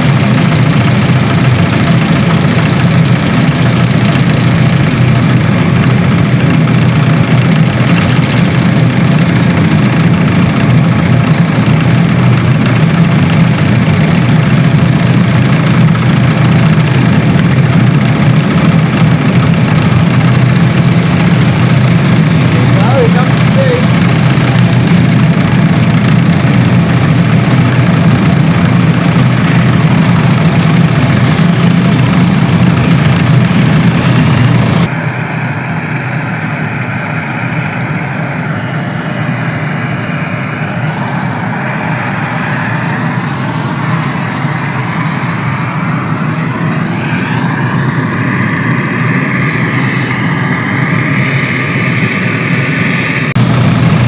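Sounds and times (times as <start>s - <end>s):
burner fan and pump humming: 0.0s - 54.0s.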